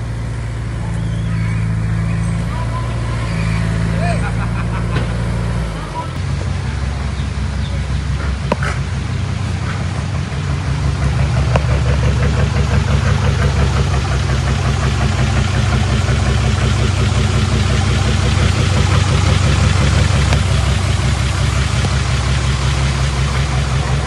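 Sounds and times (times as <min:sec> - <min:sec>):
heavy diesel engine droning: 0:00.0 - 0:24.0.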